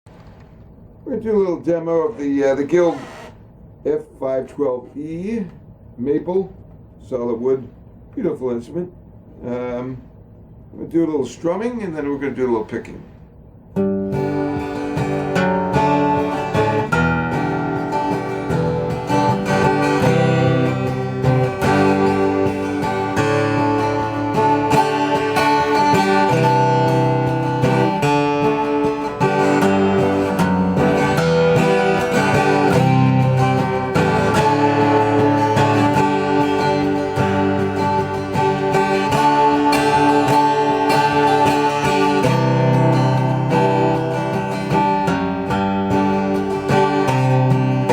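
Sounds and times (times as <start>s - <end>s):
acoustic guitar strumming: 1.1s - 5.5s, 13.7s - 47.9s.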